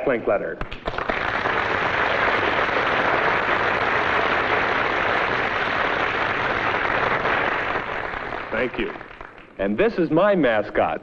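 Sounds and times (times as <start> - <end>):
audience applauding: 0.6 - 9.8.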